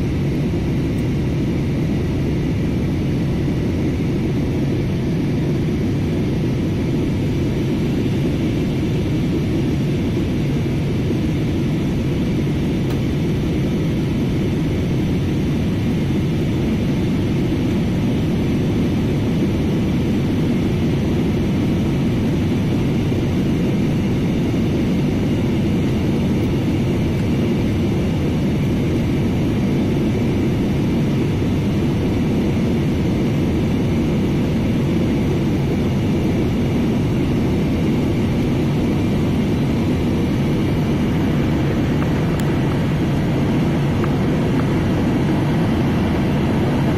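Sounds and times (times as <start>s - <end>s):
faint high whine: 0.0s - 46.9s
jet cabin low rumble: 0.0s - 46.9s.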